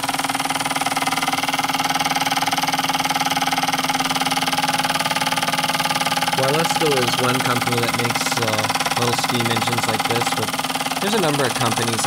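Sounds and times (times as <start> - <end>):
steady hum: 0.0 - 12.0
toy steam engine running: 0.0 - 12.0.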